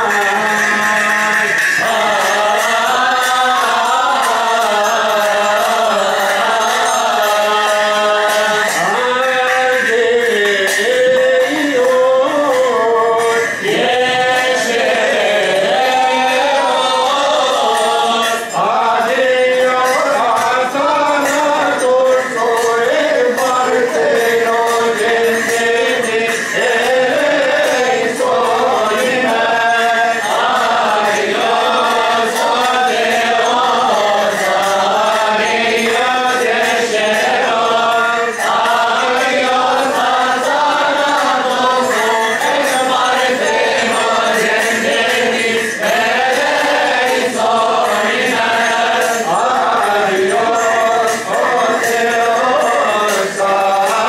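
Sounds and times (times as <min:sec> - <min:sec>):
liturgical hymn chanting: 0:00.0 - 0:54.0.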